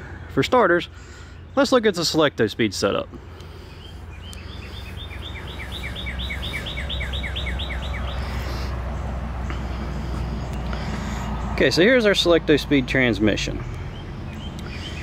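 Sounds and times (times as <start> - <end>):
songbird chirping: 2.9 - 15.0.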